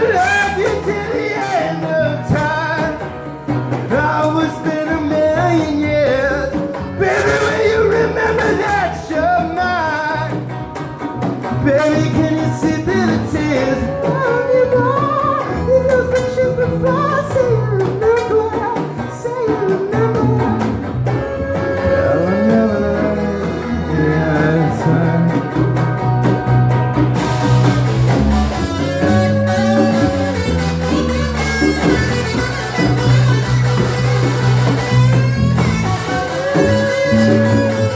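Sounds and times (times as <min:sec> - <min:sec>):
bass line: 0:00.0 - 0:37.9
bending lead melody: 0:00.0 - 0:37.9
electric guitar: 0:00.0 - 0:37.9
hand drums: 0:00.0 - 0:37.9.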